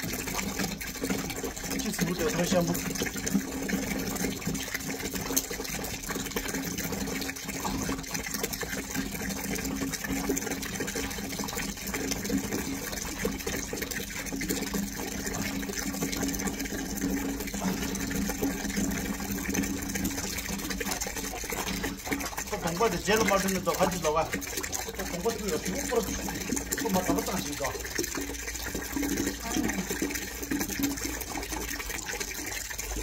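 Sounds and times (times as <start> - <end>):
water running: 0.0 - 33.0.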